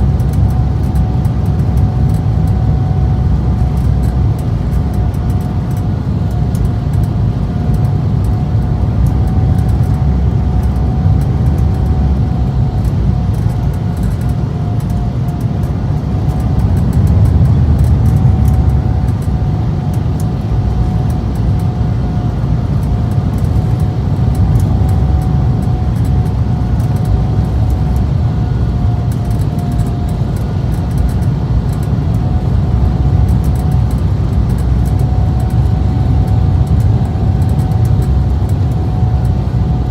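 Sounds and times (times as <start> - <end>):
low rumble of engines and airflow: 0.0 - 39.9
thin steady whine: 0.0 - 39.9.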